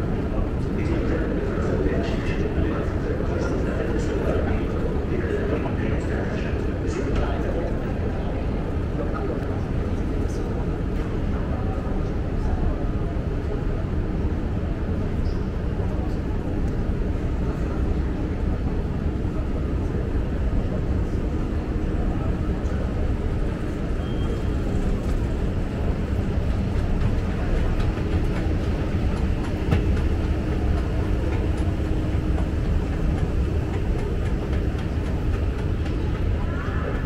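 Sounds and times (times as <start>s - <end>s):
train running: 0.0s - 37.0s.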